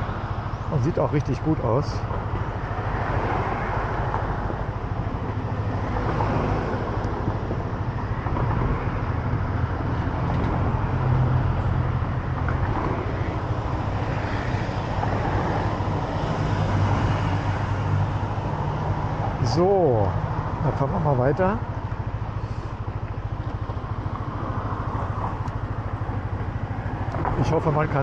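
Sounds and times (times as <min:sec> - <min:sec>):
low engine hum: 0:00.0 - 0:28.0
vehicles passing: 0:00.0 - 0:28.0.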